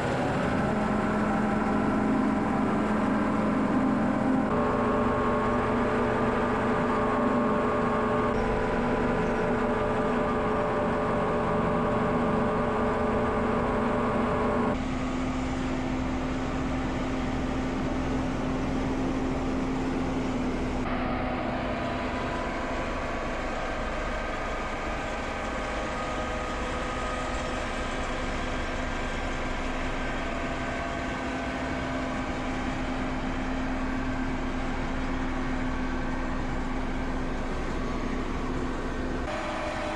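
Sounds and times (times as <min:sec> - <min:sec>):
heavy farm machinery engine running: 0:00.0 - 0:39.9.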